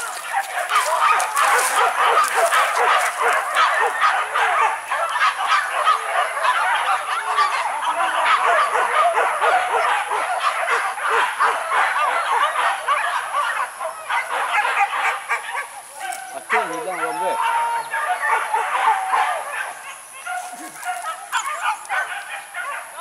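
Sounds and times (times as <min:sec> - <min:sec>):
dogs barking and yelping: 0:00.0 - 0:23.0.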